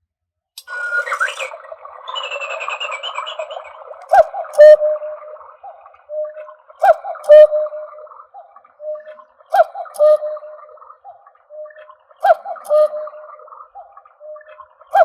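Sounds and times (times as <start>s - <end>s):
chirping: 0.6s - 15.0s
electronic cuckoo call: 0.6s - 15.0s.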